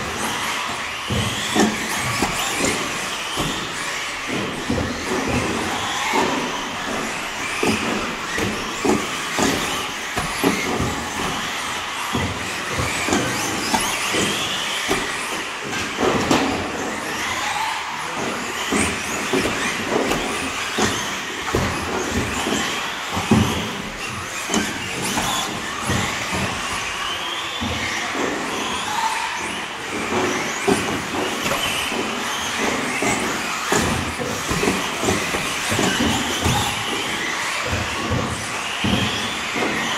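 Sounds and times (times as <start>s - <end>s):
electric motors whining: 0.0s - 39.9s
toy cars landing and bouncing: 0.0s - 39.9s.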